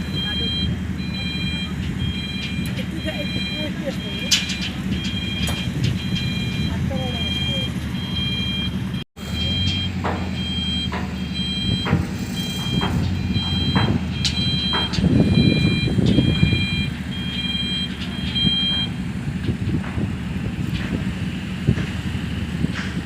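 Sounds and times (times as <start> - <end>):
vehicle reversing alarm beeping: 0.0 - 19.2
engine running: 0.0 - 23.0.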